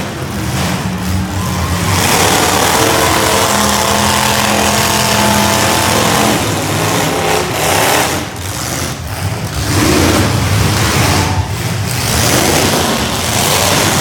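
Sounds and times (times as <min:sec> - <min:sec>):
car engines revving loudly: 0:00.0 - 0:14.0.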